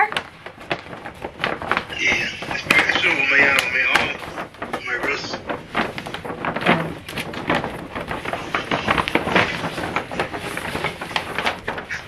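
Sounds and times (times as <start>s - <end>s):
tissue paper rustling: 0.0s - 12.0s.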